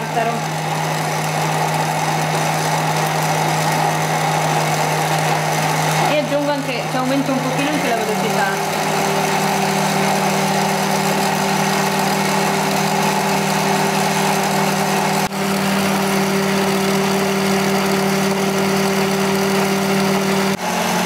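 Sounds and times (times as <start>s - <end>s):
stand mixer whisking: 0.0s - 21.0s.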